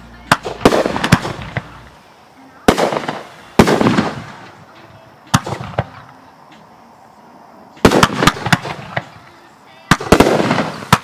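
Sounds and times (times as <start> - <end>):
fireworks bursting: 0.0 - 6.8, 7.7 - 11.0.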